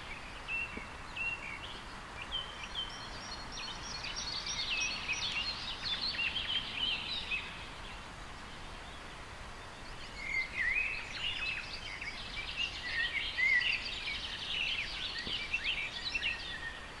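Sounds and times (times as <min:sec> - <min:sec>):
light steady hiss: 0:00.0 - 0:17.0
songbirds chirping and singing: 0:00.0 - 0:17.0.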